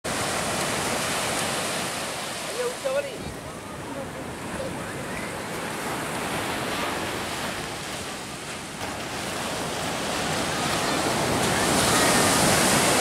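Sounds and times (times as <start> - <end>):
waves breaking on a beach: 0.1 - 13.0.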